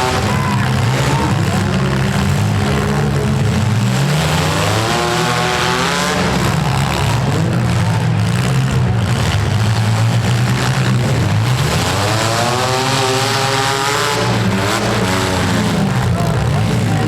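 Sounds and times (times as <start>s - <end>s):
car engine revving: 0.0s - 17.0s
car engines running loud: 0.0s - 17.0s.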